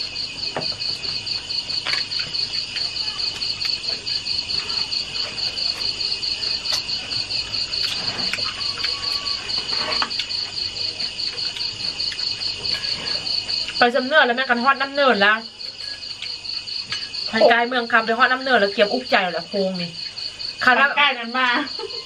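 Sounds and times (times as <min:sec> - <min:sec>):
crickets chirping: 0:00.0 - 0:22.0
high insect trill: 0:00.0 - 0:22.0.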